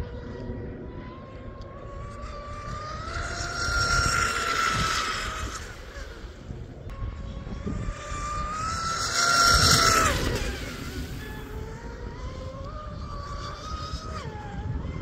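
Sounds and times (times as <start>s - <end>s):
electric motor high whine: 0.0s - 15.0s
boat rushing through water: 1.0s - 15.0s.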